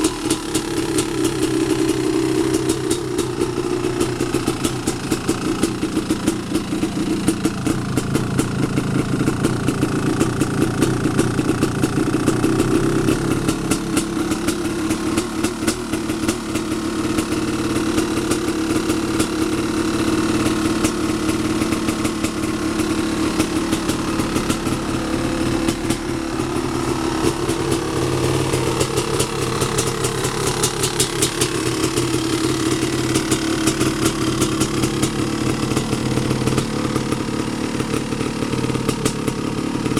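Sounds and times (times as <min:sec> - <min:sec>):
two-stroke engine idling: 0:00.0 - 0:39.9.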